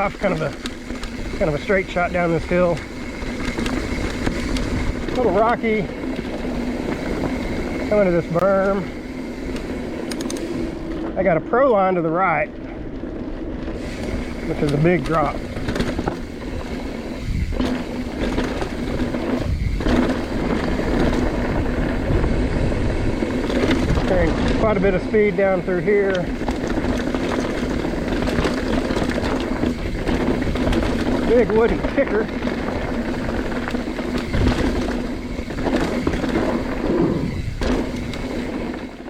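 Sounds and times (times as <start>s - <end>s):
bike tyres rattling over rocks: 0.0s - 39.0s
wind rushing over microphone: 0.0s - 39.0s.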